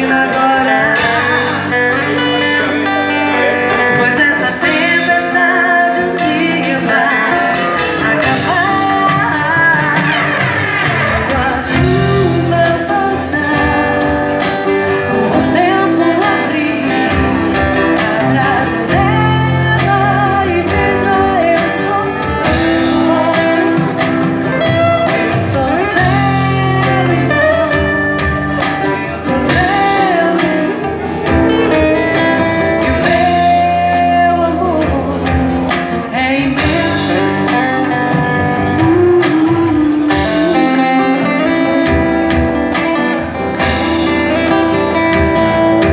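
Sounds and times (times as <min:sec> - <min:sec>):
woman singing into microphone: 0:00.0 - 0:43.0
acoustic guitar: 0:00.0 - 0:45.9
drums: 0:00.0 - 0:45.9.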